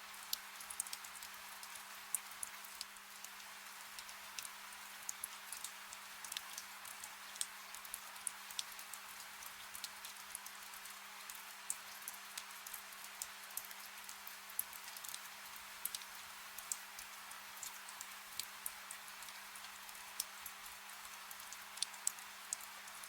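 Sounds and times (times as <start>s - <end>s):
raindrops ticking: 0.2s - 23.0s.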